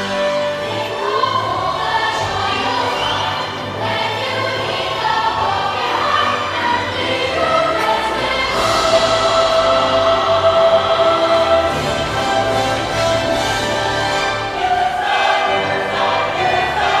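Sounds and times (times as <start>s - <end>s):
choir singing: 0.0s - 17.0s
orchestral accompaniment: 0.0s - 17.0s.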